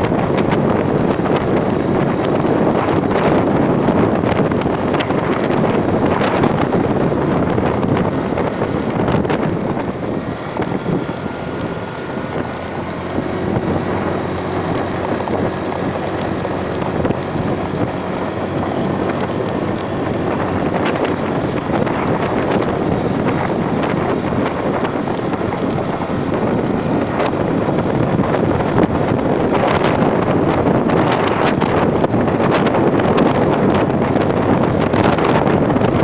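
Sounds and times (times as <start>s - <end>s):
vehicle engine running: 0.0s - 36.0s
wind buffeting microphone: 0.0s - 36.0s.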